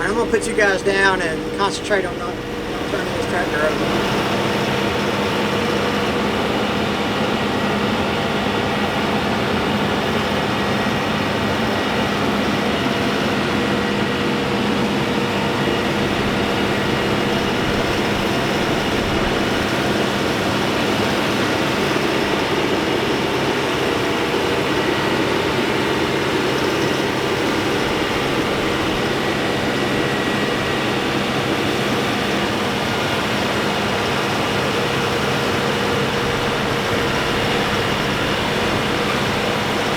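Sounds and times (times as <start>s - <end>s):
air conditioning blowing: 0.0s - 39.9s
tractor diesel engine running: 0.0s - 39.9s.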